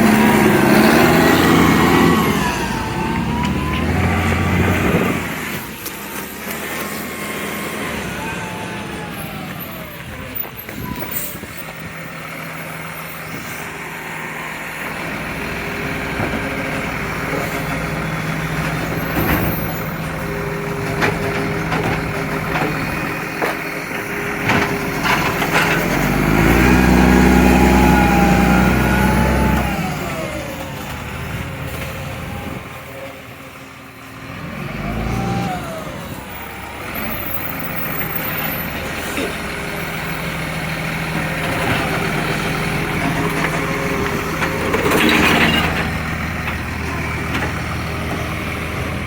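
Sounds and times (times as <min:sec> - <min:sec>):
garbage truck engine revving: 0:00.0 - 0:49.0.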